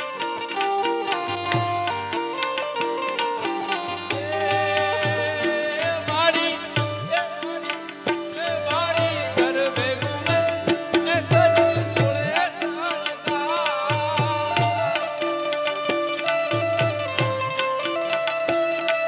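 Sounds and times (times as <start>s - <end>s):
hand drums: 0.0s - 19.0s.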